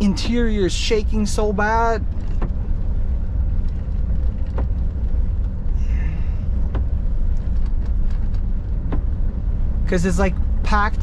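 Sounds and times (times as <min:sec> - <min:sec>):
truck cab low rumble: 0:00.0 - 0:11.0.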